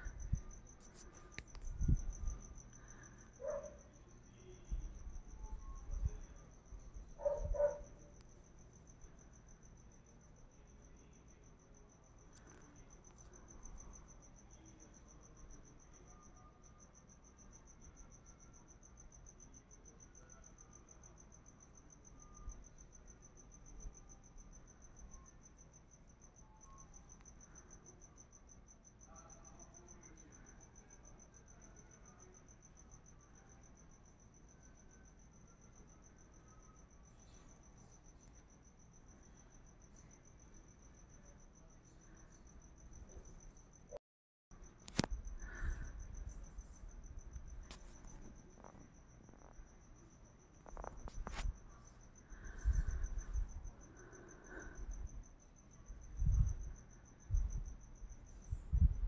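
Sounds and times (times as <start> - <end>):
cricket chirping trill: 0.0 - 59.0.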